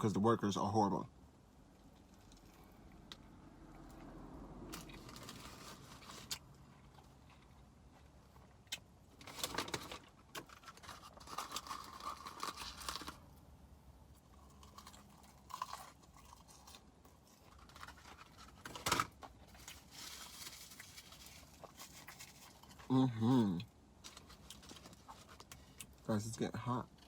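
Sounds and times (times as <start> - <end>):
person chewing and crunching food: 1.7 - 4.1, 4.7 - 13.3, 14.0 - 26.0.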